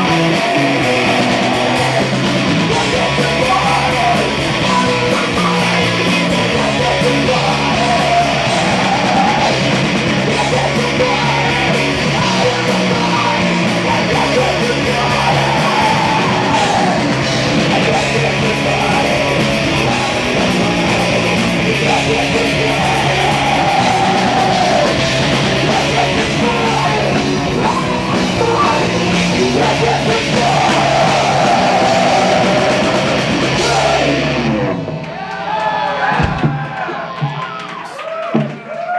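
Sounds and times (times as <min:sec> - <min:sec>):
heavy rock band playing: 0:00.0 - 0:38.5
shouted vocals: 0:00.0 - 0:38.9.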